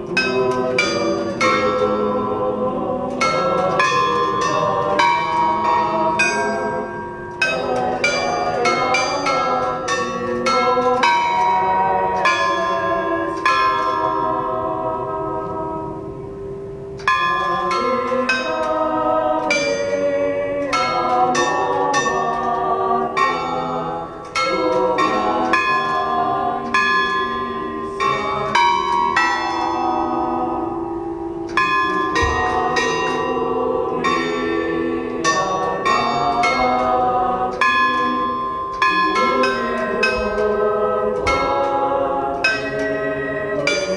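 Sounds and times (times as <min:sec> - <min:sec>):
bells ringing a melody: 0:00.0 - 0:43.9.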